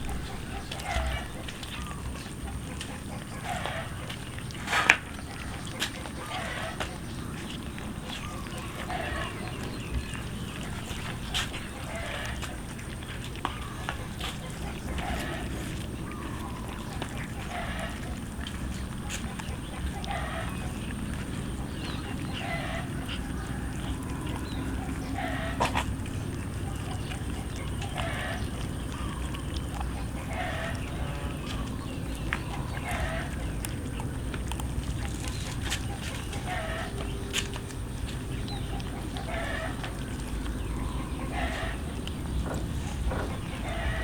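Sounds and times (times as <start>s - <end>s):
cats meowing: 0.0s - 44.0s
chewing clicks: 0.0s - 44.0s
low background rumble: 0.0s - 44.0s.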